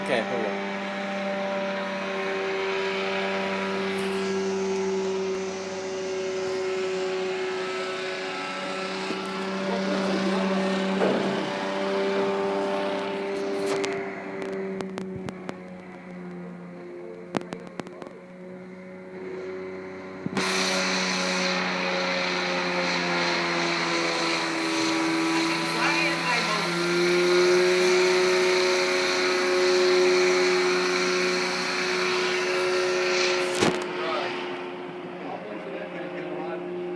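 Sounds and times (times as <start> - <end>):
propeller engines droning: 0.0 - 36.9.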